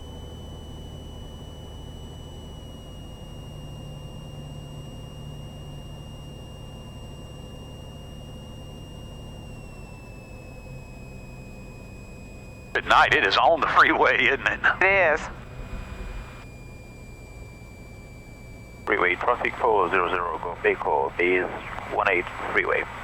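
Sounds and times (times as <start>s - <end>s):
airplane engine and propeller droning: 0.0s - 23.0s
thin high whine: 4.4s - 23.0s.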